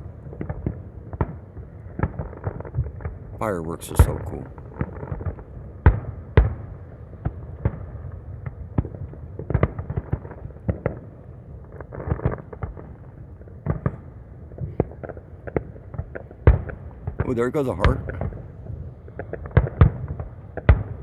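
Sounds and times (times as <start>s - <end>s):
fireworks booms and pops: 0.0s - 21.0s.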